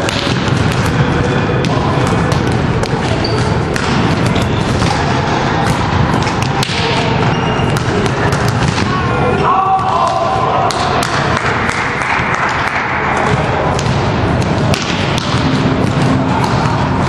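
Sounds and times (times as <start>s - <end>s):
volleyball hit by hands: 0.0s - 7.1s, 7.7s - 9.0s, 9.8s - 17.0s
echoing voices: 0.0s - 17.0s.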